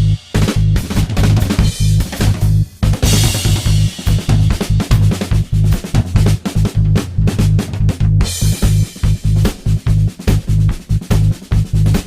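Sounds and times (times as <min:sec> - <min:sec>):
music with heavy drum beat: 0:00.0 - 0:12.0.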